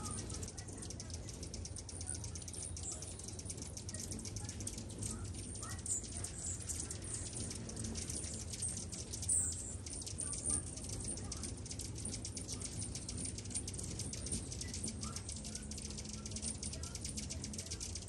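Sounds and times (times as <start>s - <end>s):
hummingbirds chipping and twittering: 0.0s - 18.0s
low steady hum: 0.0s - 18.0s.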